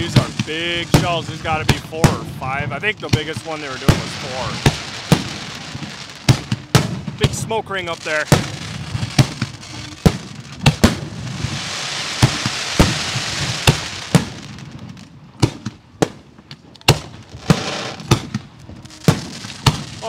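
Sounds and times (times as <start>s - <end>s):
steady hiss: 0.0s - 15.3s, 17.1s - 20.0s
fireworks booming: 0.0s - 20.0s.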